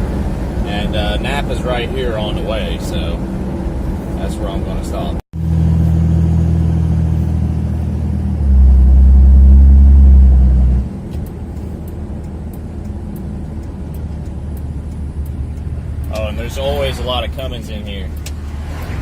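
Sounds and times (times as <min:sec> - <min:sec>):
diesel engine and road drone: 0:00.0 - 0:19.0.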